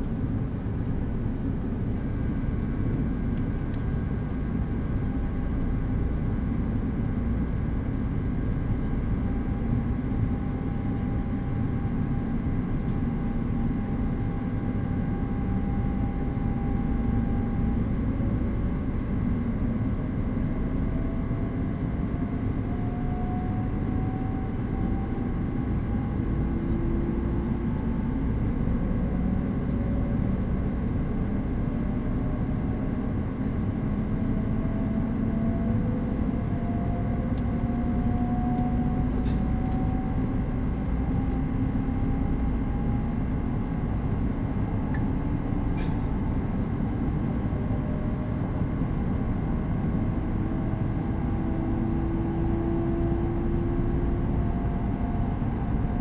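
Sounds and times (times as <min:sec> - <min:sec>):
rumble of wheels on rail: 0:00.0 - 0:56.0.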